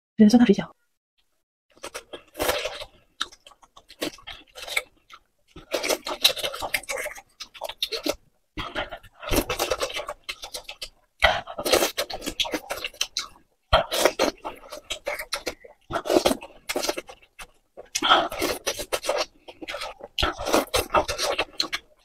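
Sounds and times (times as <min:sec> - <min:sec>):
wet chewing and smacking: 0:01.7 - 0:22.0.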